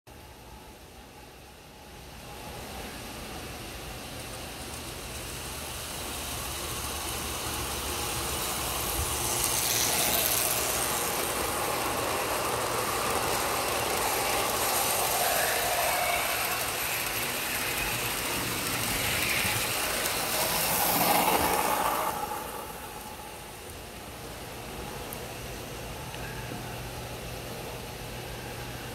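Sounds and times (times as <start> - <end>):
model train rumbling past: 0.2 - 28.9.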